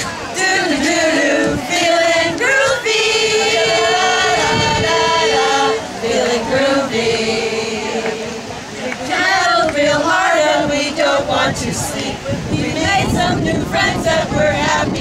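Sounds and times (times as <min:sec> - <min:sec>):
women singing in unison: 0:00.0 - 0:15.0.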